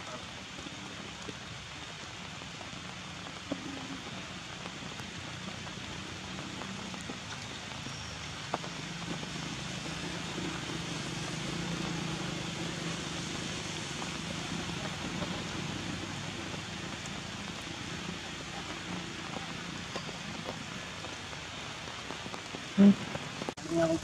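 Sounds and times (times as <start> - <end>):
steady hissing noise: 0.0 - 24.0.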